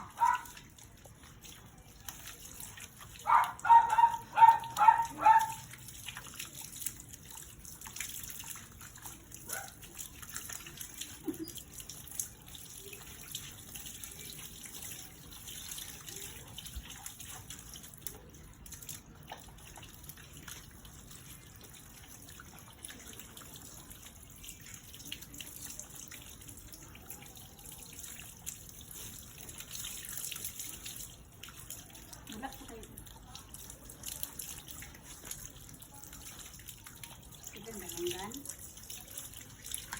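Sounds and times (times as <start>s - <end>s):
small water splashes: 0.0s - 39.9s
water running and dripping: 0.0s - 39.9s.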